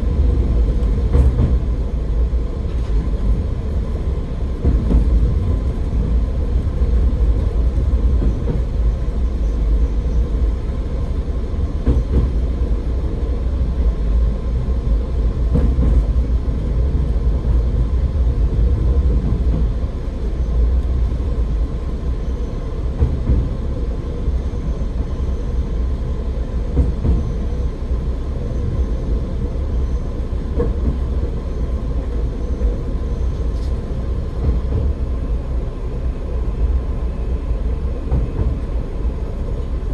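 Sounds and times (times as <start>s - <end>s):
railcar engine and wheels rumbling: 0.0s - 39.9s.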